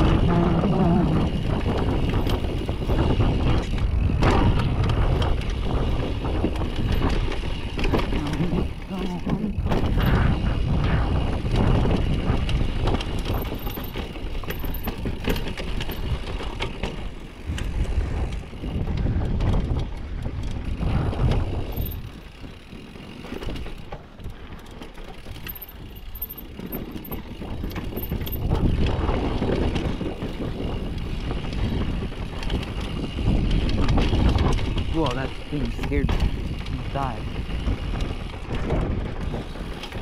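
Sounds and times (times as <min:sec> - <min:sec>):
mountain bike rattling: 0:00.0 - 0:40.0
steady rumble: 0:00.0 - 0:40.0.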